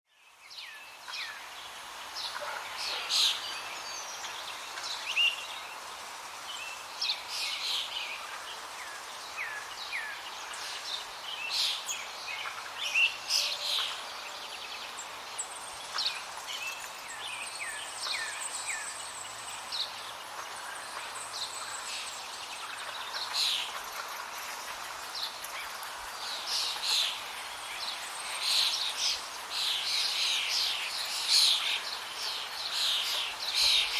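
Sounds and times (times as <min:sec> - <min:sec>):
songbirds chirping: 0:00.1 - 0:33.9
steady outdoor hiss: 0:00.1 - 0:33.9.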